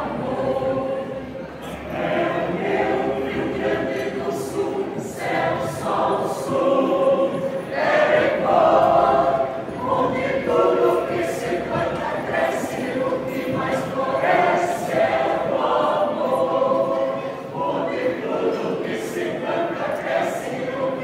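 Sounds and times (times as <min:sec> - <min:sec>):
mixed choir singing a cappella: 0:00.0 - 0:21.0.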